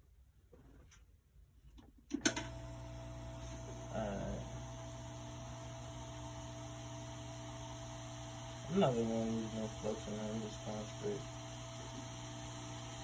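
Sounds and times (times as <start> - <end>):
hot air blower humming: 2.3 - 13.0.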